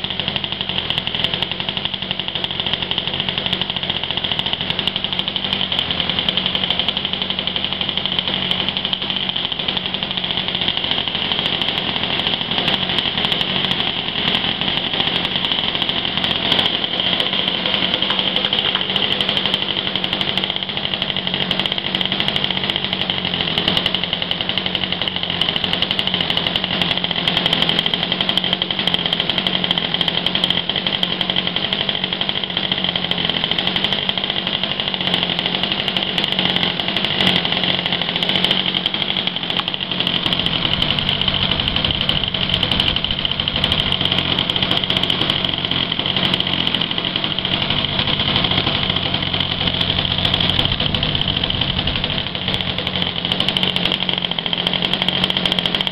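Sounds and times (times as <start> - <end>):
model aircraft engine buzzing: 0.0 - 55.9.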